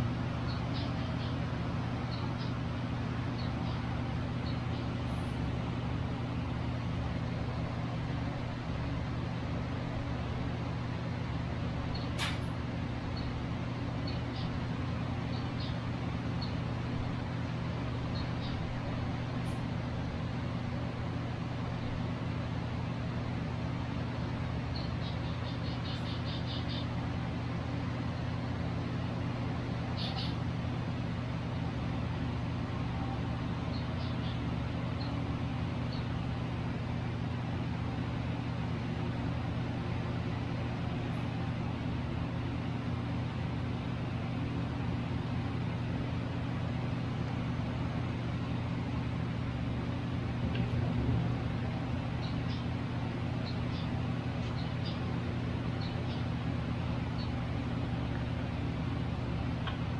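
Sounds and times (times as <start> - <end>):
small birds chirping: 0.0 - 31.2, 31.8 - 42.0, 47.8 - 59.9
low machine hum: 0.0 - 59.9.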